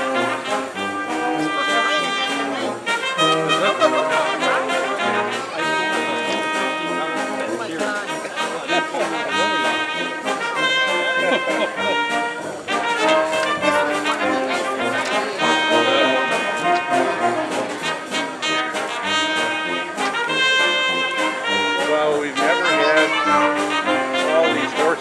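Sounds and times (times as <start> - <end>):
brass band music: 0.0 - 25.0.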